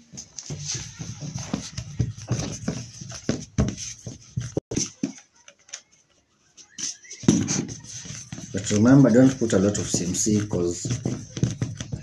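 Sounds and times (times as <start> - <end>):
hands rolling paste on table: 0.0 - 12.0.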